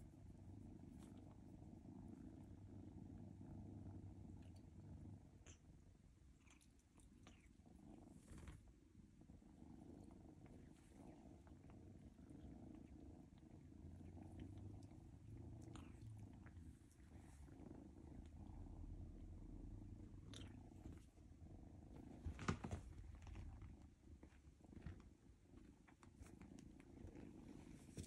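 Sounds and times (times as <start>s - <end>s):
kittens purring: 0.0s - 28.0s.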